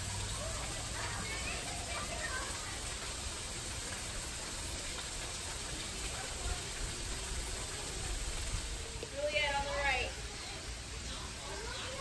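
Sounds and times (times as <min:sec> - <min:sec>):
distant voices: 0:00.0 - 0:12.0
outdoor hiss: 0:00.0 - 0:12.0.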